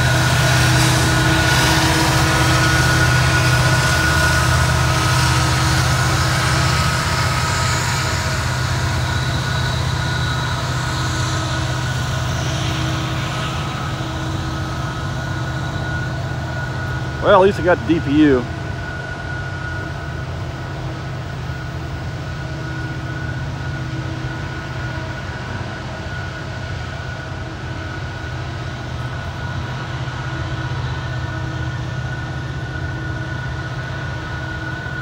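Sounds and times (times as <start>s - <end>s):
freight train rolling past: 0.0s - 35.0s
low diesel engine drone: 0.0s - 35.0s.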